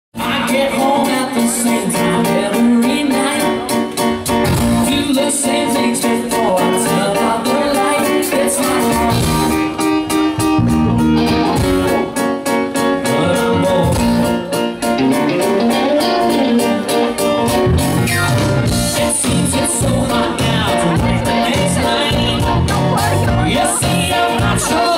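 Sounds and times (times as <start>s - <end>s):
electric guitar: 0.2s - 24.9s
rock band playing: 0.2s - 24.9s.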